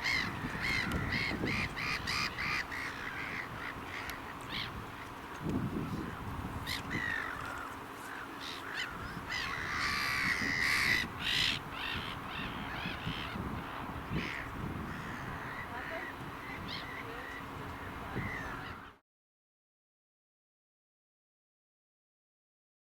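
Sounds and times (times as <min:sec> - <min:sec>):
birds calling: 0:00.0 - 0:19.0
steady low hum: 0:00.0 - 0:19.0.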